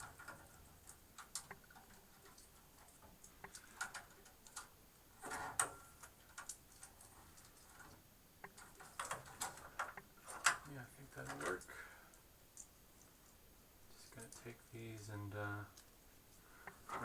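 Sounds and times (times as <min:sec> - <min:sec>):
cables clicking and rustling: 0:00.0 - 0:17.0.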